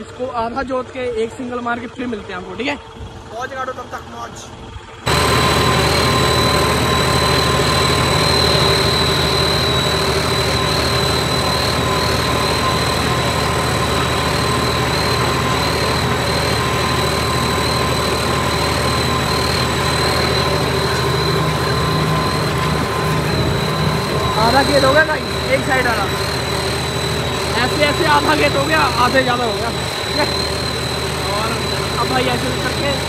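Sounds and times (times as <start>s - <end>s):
tractor diesel engine under load: 0.0s - 33.0s
high turbo whistle: 5.1s - 33.0s.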